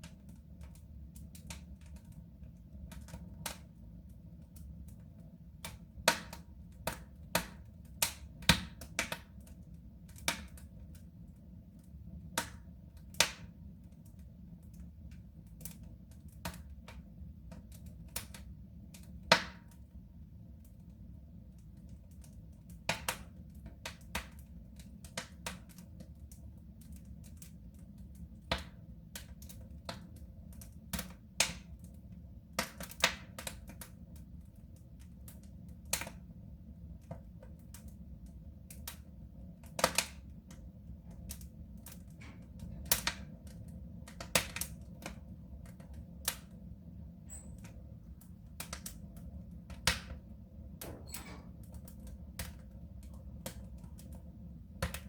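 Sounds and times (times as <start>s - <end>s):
low rumble of fire: 0.0s - 55.0s
wood fire popping and snapping: 0.0s - 55.0s.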